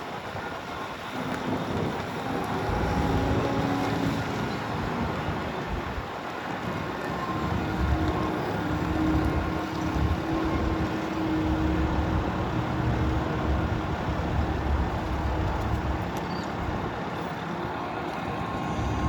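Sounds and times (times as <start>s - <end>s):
diesel engine rumbling: 0.8s - 19.0s.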